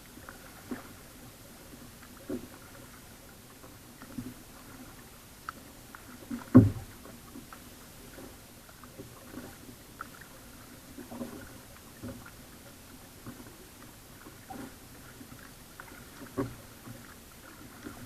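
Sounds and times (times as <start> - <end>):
kayak paddle strokes and knocks: 0.0 - 18.0.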